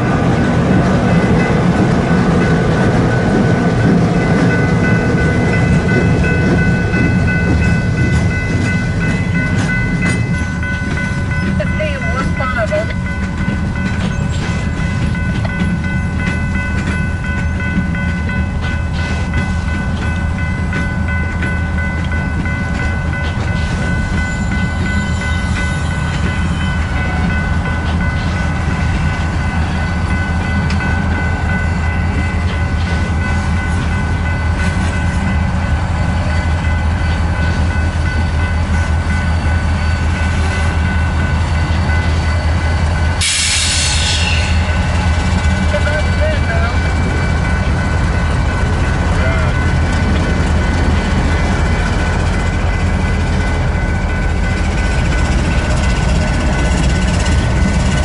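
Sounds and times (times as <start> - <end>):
diesel locomotive rumble: 0.0 - 58.0
freight train rolling: 0.0 - 58.0.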